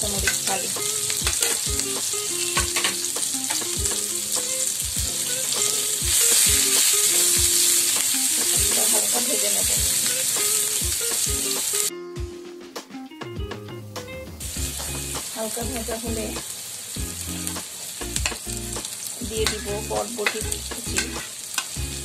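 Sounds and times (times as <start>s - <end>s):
vegetables sizzling in hot oil: 0.0s - 11.9s, 14.4s - 22.0s.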